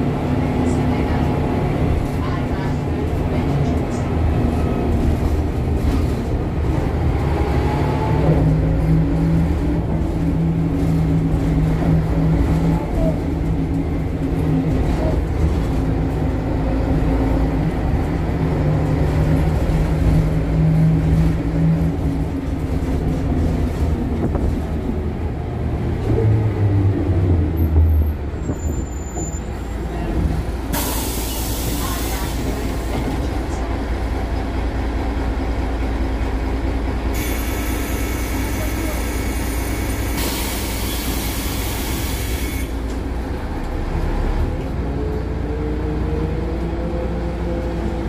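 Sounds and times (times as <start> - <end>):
bus body rattling: 0.0 - 26.4, 27.0 - 45.3
bus diesel engine droning: 0.0 - 48.0.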